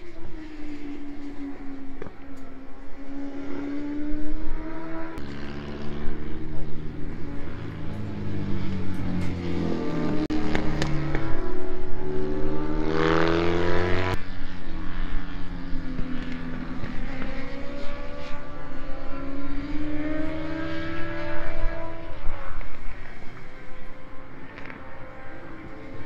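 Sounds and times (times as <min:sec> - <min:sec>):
racing motorcycle engines accelerating: 0:00.0 - 0:26.0.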